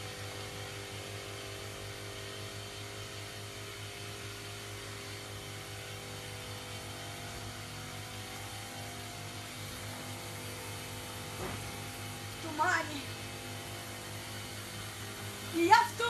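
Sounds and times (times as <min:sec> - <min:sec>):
electric pump humming: 0:00.0 - 0:16.0
sprayer hissing: 0:00.0 - 0:16.0.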